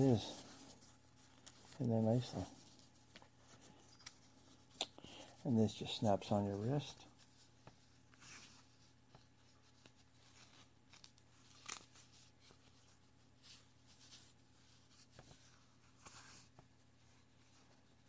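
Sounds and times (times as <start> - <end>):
faint rustling: 0.0 - 18.0.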